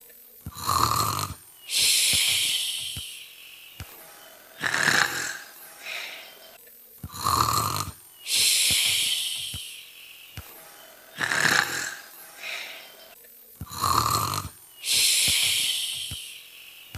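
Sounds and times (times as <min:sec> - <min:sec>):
person imitating snoring: 0:00.5 - 0:03.4, 0:04.5 - 0:09.9, 0:11.1 - 0:16.5.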